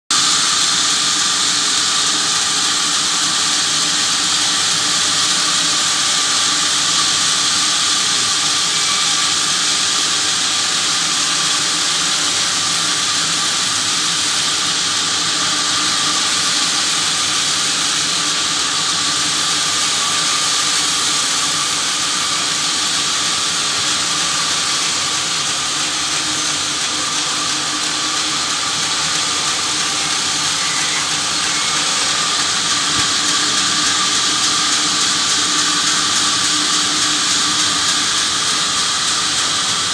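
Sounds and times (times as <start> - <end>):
band saw cutting log: 0.1 - 39.9.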